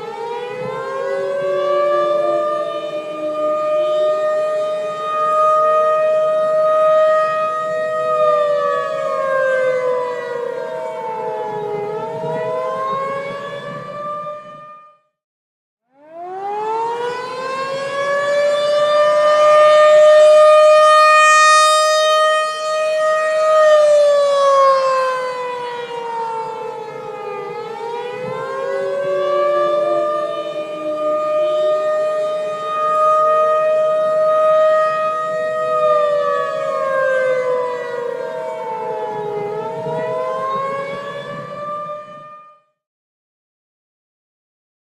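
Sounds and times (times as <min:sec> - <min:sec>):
tornado warning siren wailing: 0:00.0 - 0:15.2, 0:15.9 - 0:42.8.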